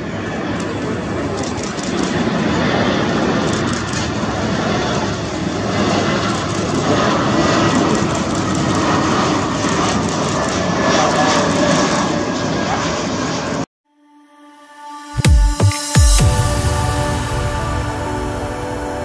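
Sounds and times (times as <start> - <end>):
jet airliner engine and airflow rush: 0.0 - 13.7, 15.1 - 19.0.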